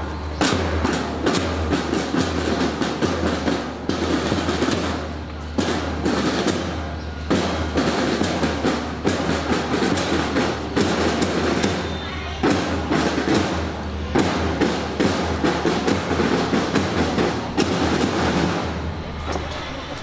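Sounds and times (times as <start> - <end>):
marching snare drum beat: 0.2 - 19.1.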